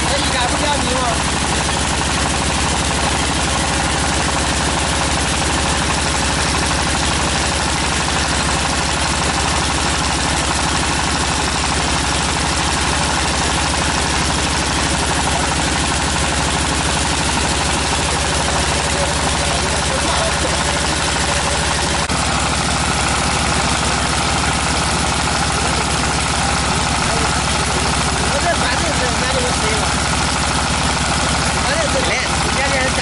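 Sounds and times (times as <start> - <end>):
drilling rig engine pulsing: 0.0 - 33.0.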